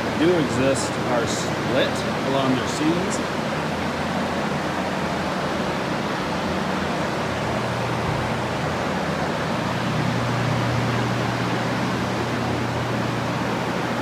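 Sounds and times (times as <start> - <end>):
dehumidifier humming: 0.0 - 14.0
drying fans rushing air: 0.0 - 14.0.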